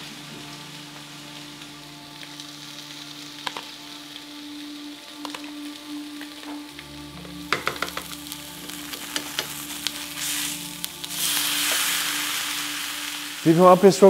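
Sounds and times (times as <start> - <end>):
fish sizzling in a frying pan: 0.0 - 6.7, 7.3 - 14.0.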